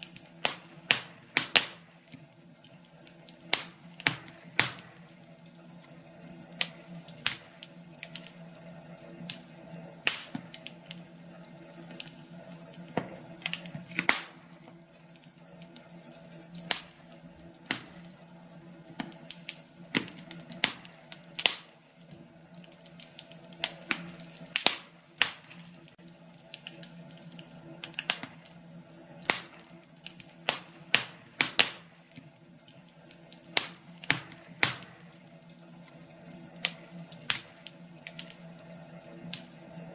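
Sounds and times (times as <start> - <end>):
firewood crackling and popping: 0.0 - 39.9
steady low hum: 0.0 - 39.9.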